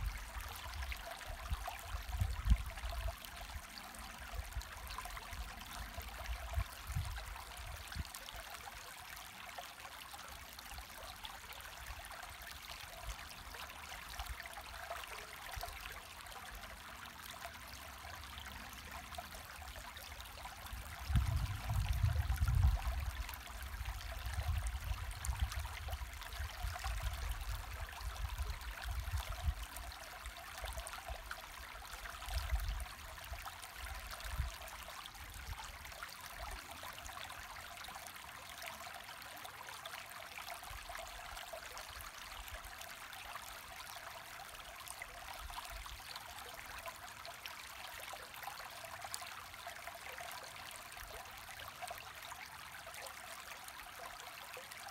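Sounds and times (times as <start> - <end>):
creek water babbling over stones: 0.0 - 54.9.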